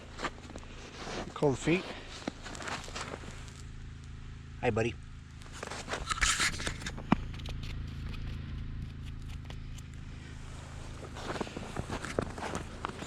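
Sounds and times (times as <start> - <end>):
footsteps crunching through snow: 0.0 - 3.6, 5.5 - 9.6, 10.2 - 13.0
steady low hum: 0.0 - 13.0.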